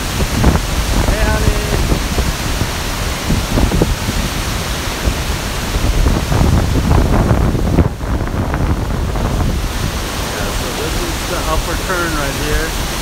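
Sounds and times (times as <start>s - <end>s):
river rapids rushing over rocks: 0.0s - 13.0s
wind buffeting microphone: 0.0s - 13.0s.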